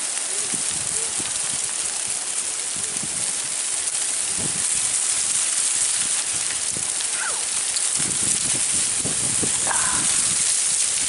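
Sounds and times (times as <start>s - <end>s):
dry leaves rustling: 0.0s - 11.0s
strong gusting wind: 0.4s - 11.0s.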